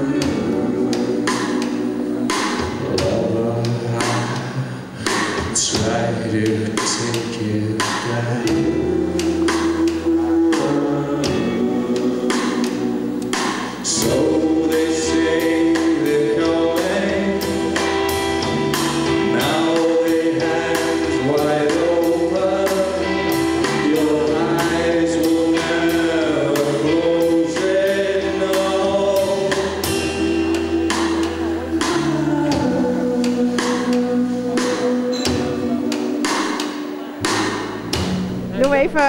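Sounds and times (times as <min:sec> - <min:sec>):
bass guitar: 0:00.0 - 0:39.0
electric guitar: 0:00.0 - 0:39.0
keyboards: 0:00.0 - 0:39.0
steady drum beat: 0:00.0 - 0:39.0.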